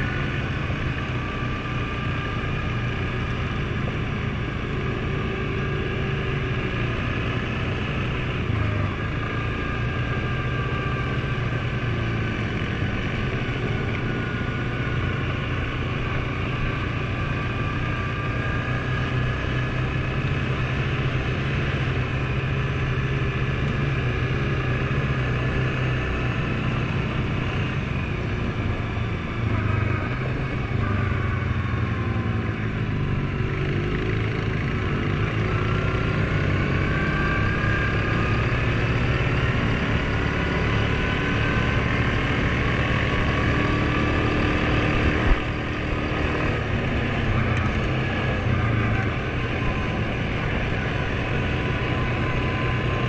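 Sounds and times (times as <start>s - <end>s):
atv engine running: 0.0s - 53.0s
road and wind noise: 0.0s - 53.0s.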